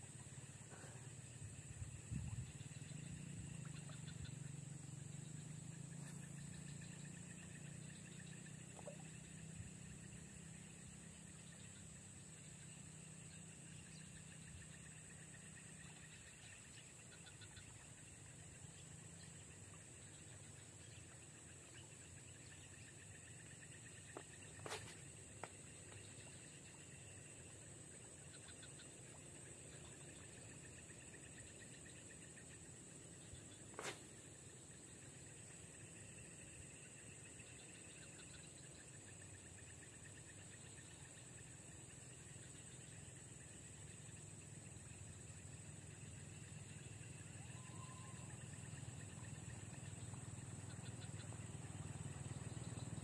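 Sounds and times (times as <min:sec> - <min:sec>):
high-pitched insect drone: 0:00.7 - 0:53.0.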